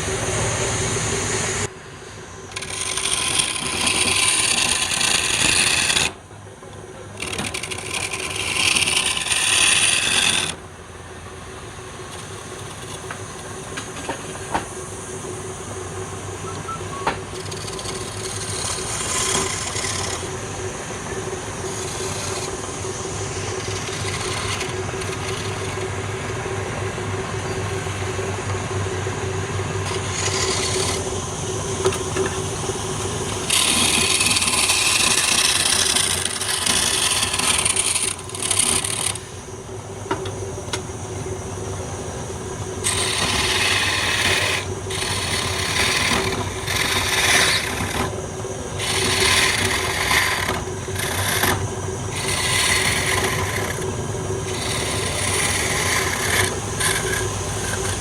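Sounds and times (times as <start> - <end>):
tool rasping on spinning wood: 0.0 - 6.3, 7.0 - 10.7, 12.0 - 40.2, 41.1 - 58.0
lathe motor hum: 0.0 - 58.0.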